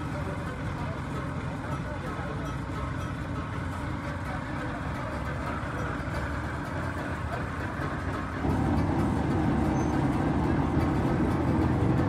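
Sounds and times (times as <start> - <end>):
low traffic-like rumble: 0.0 - 12.0.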